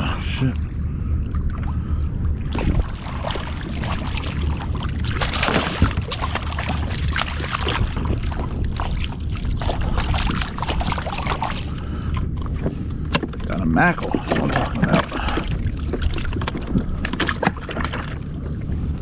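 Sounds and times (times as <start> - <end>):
wind on microphone: 0.0 - 19.0
water slapping hull: 0.3 - 19.0
fish splashing and thrashing: 1.2 - 19.0.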